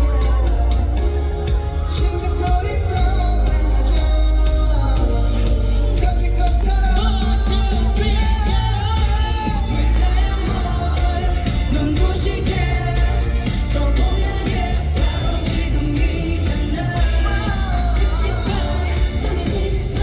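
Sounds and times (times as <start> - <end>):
pop song with male group vocals: 0.0 - 20.0.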